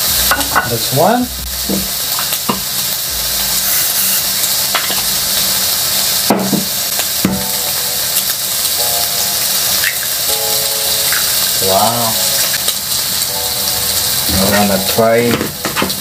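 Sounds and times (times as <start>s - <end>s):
food sizzling on a grill: 0.0s - 16.0s.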